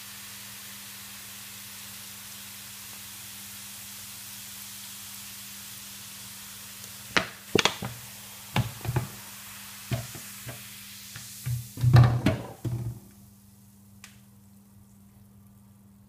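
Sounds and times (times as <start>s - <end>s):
cola fizzing hiss: 0.0s - 16.0s.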